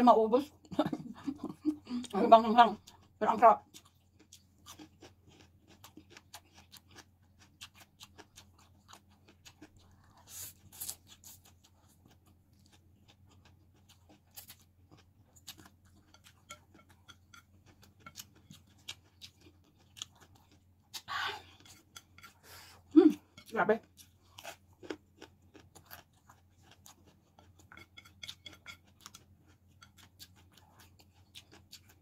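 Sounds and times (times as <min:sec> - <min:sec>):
chewing with wet mouth clicks: 0:03.7 - 0:22.4, 0:23.2 - 0:32.0.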